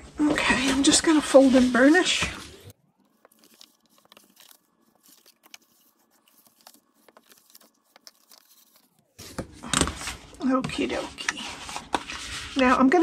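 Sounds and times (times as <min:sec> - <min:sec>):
paper rubs and crinkles: 0:00.5 - 0:09.4, 0:10.0 - 0:13.0.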